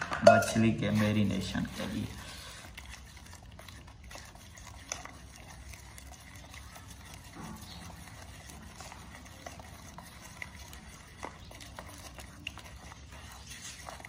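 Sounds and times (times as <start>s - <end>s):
spoon stirring thick batter: 0.0s - 14.0s.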